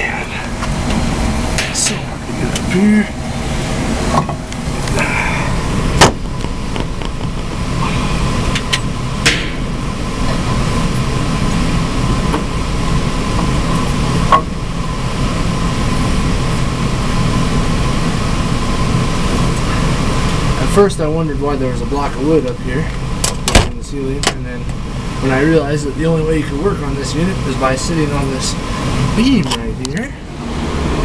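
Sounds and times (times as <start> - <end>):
heat pump droning: 0.0 - 31.0.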